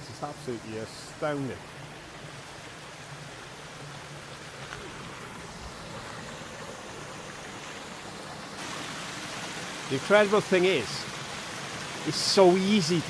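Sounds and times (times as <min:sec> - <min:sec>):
waterfall and stream over rocks: 0:00.0 - 0:13.0.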